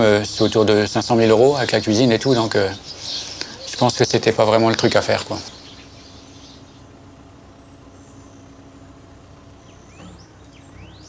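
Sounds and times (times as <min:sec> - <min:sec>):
bird chirps: 0:00.0 - 0:11.0
engine running: 0:00.0 - 0:11.0
rising bird calls: 0:00.0 - 0:11.0.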